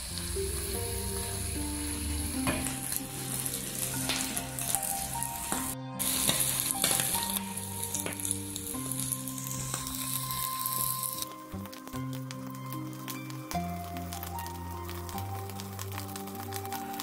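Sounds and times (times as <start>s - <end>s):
background music with held notes: 0.0s - 17.0s
prawns sizzling in hot oil: 0.0s - 17.0s.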